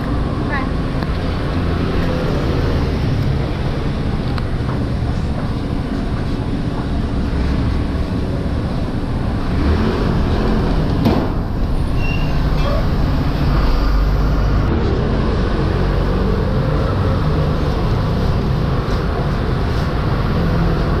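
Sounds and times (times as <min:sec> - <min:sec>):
vehicle passing by: 0:00.0 - 0:05.9, 0:07.0 - 0:21.0
street traffic rumble: 0:00.0 - 0:21.0.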